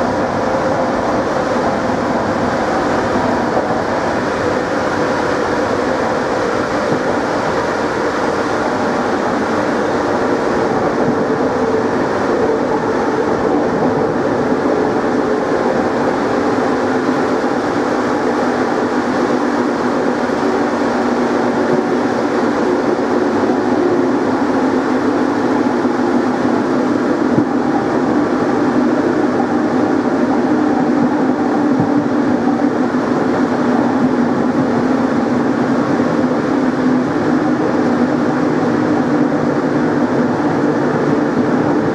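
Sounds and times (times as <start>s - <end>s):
train rolling noise: 0.0s - 41.9s.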